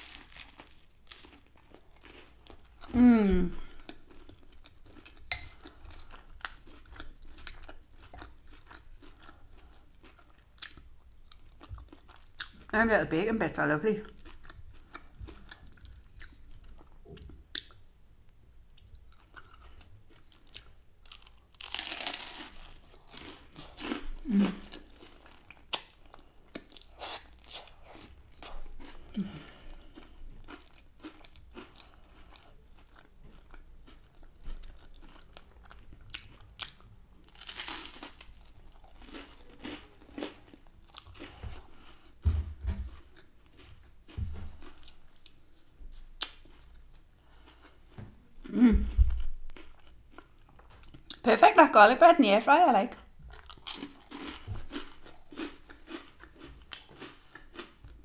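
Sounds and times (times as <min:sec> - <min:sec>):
person chewing food: 0:00.0 - 0:12.7, 0:14.0 - 0:17.8, 0:18.7 - 0:51.2, 0:53.2 - 0:58.0.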